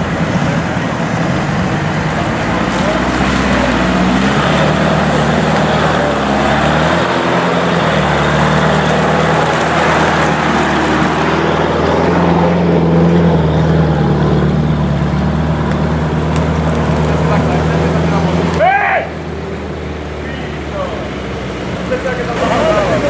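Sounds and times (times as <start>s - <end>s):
off-road vehicle engine droning: 0.0s - 23.0s.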